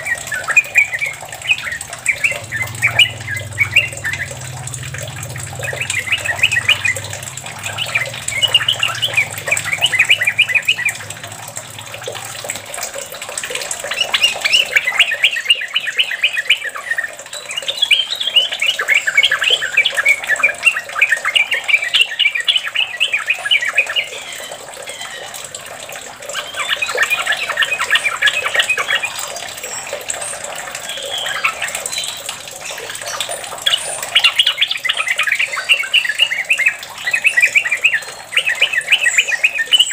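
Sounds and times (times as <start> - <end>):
bulbul singing bubbling chatter: 0.0 - 39.9.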